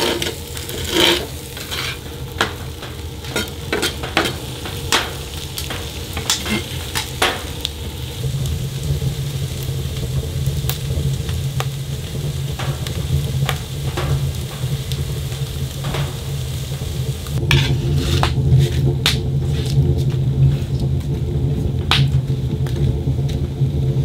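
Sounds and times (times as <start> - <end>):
peppers sizzling in a frying pan: 0.0 - 24.0
spinach popping in hot pan: 0.0 - 24.0
wood fire crackling: 0.0 - 24.0.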